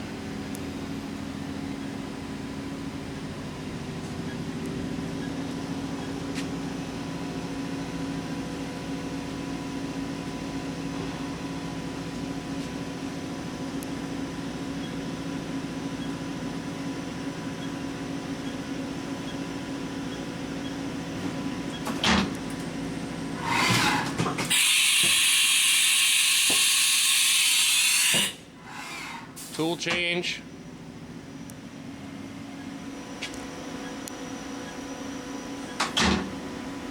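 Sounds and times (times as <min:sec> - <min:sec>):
machine hum with tones: 0:00.0 - 0:27.8, 0:30.2 - 0:36.9.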